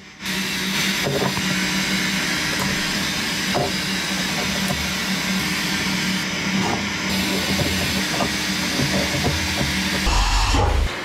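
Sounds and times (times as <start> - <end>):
machining centre hiss and hum: 0.0 - 11.0.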